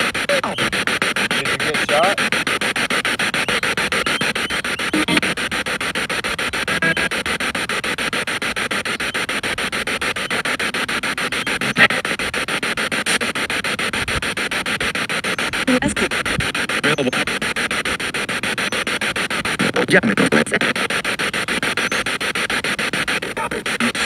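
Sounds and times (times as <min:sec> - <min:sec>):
spirit box radio stuttering hiss: 0:00.0 - 0:24.0
voice-like radio snatches: 0:00.0 - 0:24.0.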